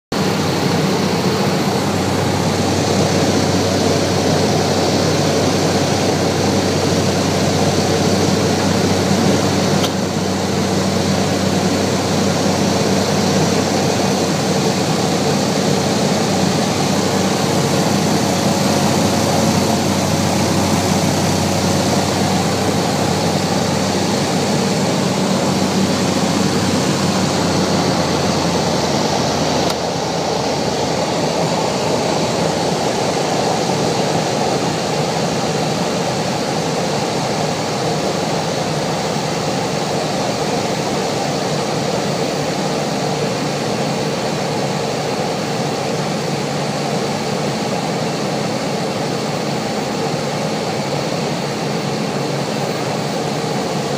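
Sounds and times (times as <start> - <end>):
propeller airplane engine droning: 0.1 - 53.9.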